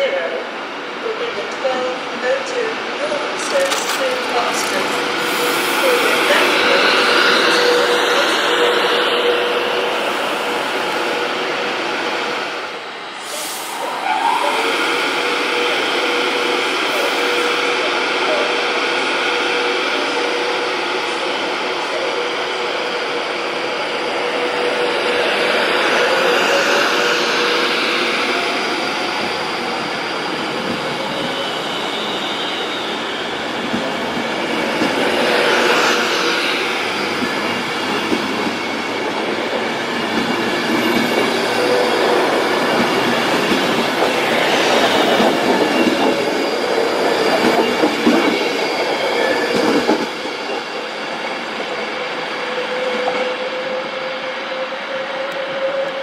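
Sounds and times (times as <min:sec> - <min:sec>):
train passing close by: 0:00.0 - 0:56.0.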